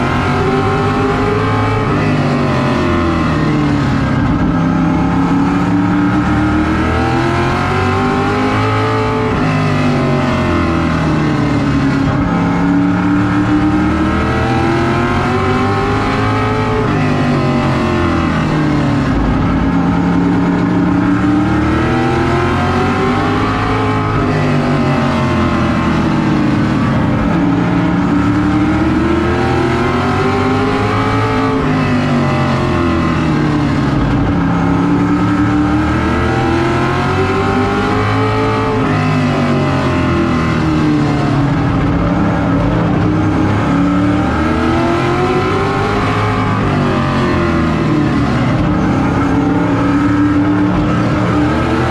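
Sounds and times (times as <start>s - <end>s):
race car engine accelerating: 0.0s - 51.9s.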